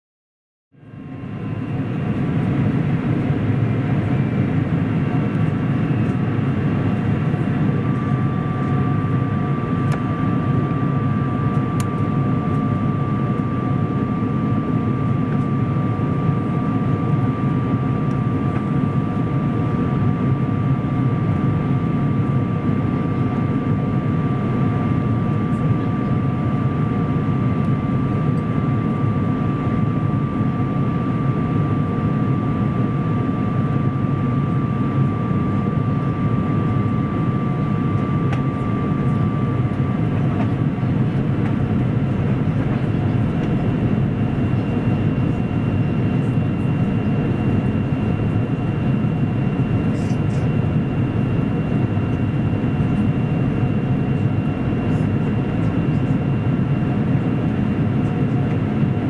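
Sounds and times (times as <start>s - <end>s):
airliner cabin engine roar: 0.8s - 59.0s.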